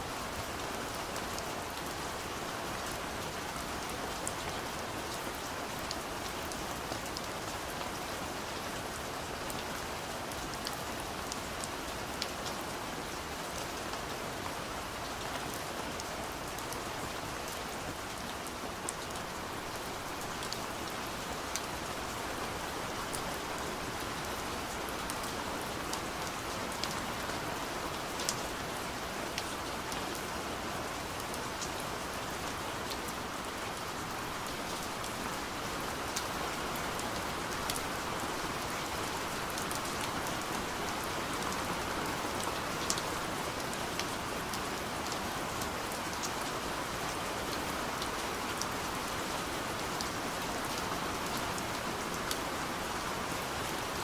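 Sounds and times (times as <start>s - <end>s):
rain pattering on a window: 0.1s - 54.0s.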